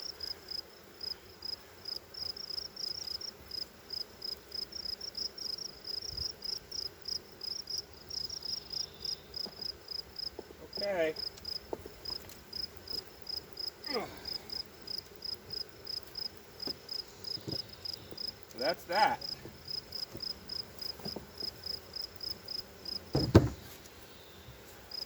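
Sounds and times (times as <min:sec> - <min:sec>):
honeybees humming: 0:00.0 - 0:25.0
high-pitched insect chirping: 0:00.1 - 0:23.0.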